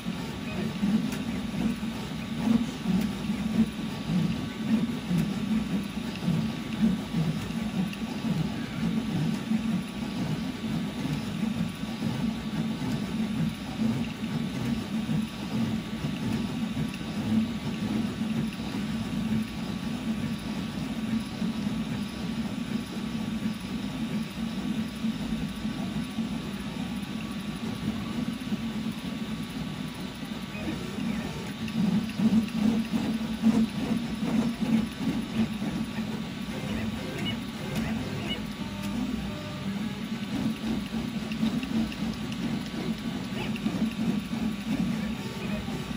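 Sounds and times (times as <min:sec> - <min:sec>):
printer stepper motors whirring: 0:00.0 - 0:45.9.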